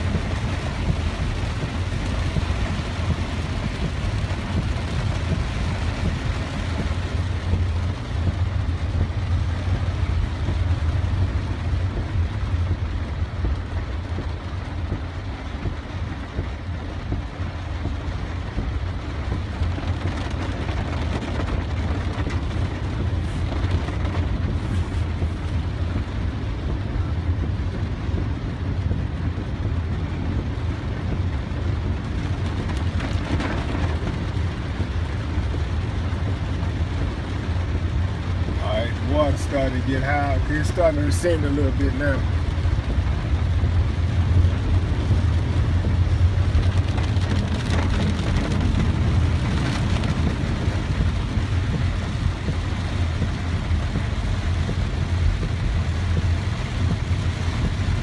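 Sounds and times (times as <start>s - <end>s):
car engine and tyres droning: 0.0s - 58.0s.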